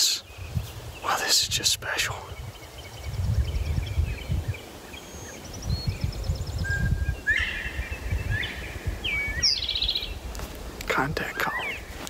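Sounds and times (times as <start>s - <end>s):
birds chattering calls: 0.0s - 12.0s
wind rumble on microphone: 0.0s - 12.0s.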